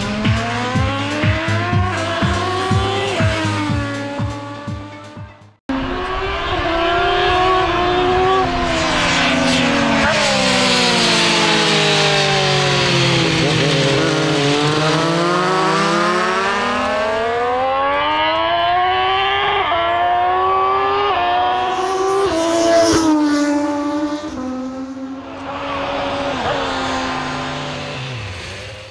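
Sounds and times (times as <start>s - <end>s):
racing motorcycle engine: 0.0s - 28.9s.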